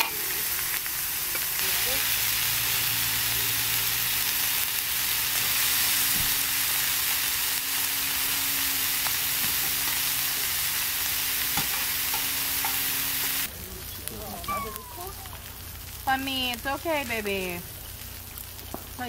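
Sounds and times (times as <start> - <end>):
meat sizzling on grill pan: 0.0 - 19.0.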